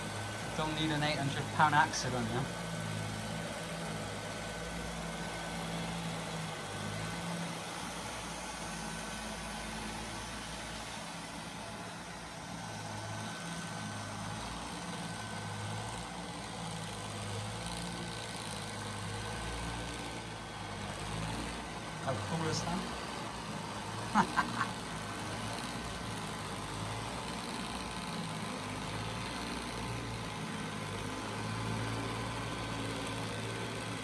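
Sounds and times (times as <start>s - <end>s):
robot vacuum humming: 0.0s - 34.0s.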